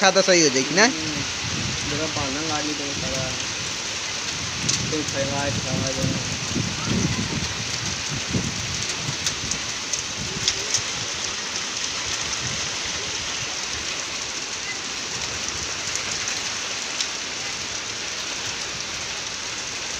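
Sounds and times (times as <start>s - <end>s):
heavy rain on concrete: 0.0s - 19.9s.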